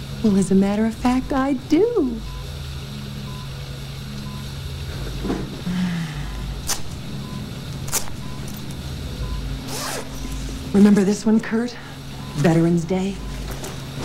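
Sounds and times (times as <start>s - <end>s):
low electronic hum: 0.0s - 14.0s.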